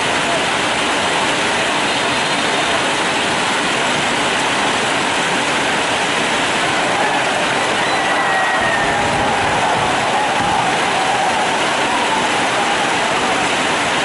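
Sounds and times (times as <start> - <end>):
rushing outdoor hiss: 0.0 - 14.0.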